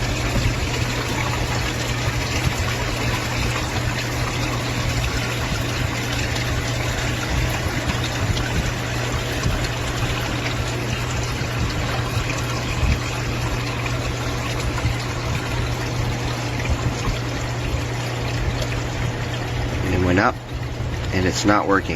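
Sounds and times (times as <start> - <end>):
constant low hum: 0.0 - 21.9
water running: 0.0 - 21.9.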